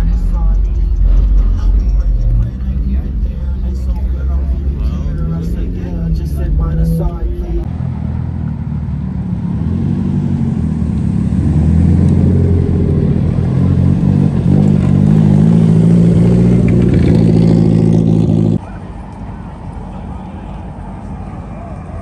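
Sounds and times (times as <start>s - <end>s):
car engines passing at low revs: 0.0s - 22.0s.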